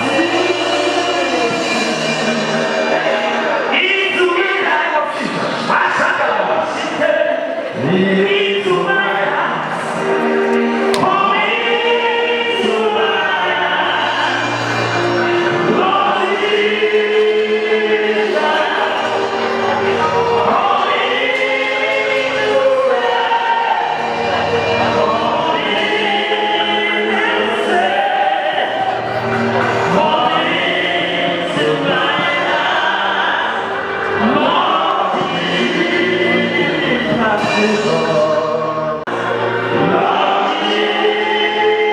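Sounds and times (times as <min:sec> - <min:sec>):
group singing gospel: 0:00.0 - 0:04.6, 0:07.8 - 0:41.9.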